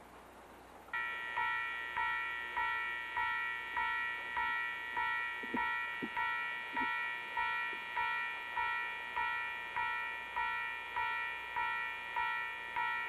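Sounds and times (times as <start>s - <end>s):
railway warning bell ringing: 0.9s - 13.0s.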